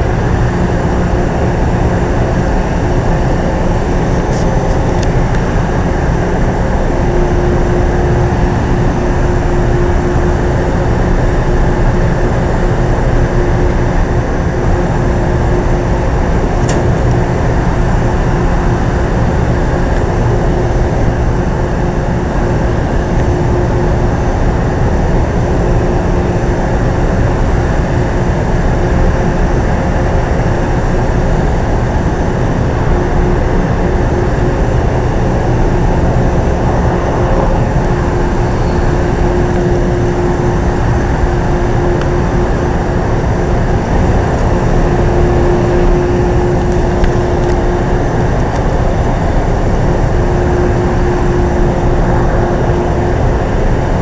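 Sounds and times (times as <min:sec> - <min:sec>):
train equipment hum: 0:00.0 - 0:54.0.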